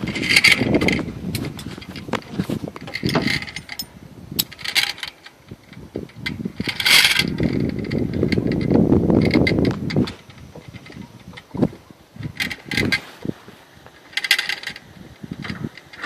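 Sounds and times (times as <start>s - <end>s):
metal clicks and clanks: 0.0s - 13.0s, 13.9s - 16.0s.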